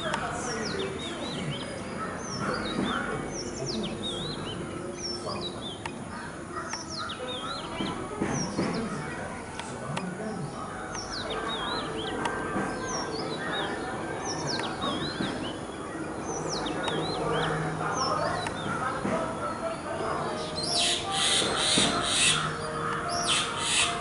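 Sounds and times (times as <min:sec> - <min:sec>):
small songbirds chirping: 0:00.0 - 0:24.0
steady background murmur: 0:00.0 - 0:24.0.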